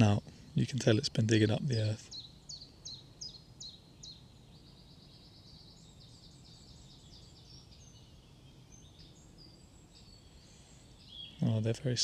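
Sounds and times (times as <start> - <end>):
faint songbirds singing: 0.0 - 12.0.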